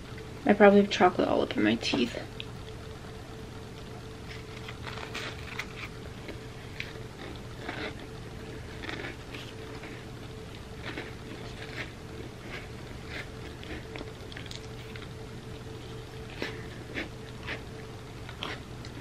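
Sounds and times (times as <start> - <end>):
low hum: 0.0 - 19.0
chewing crunchy crackers: 3.8 - 19.0.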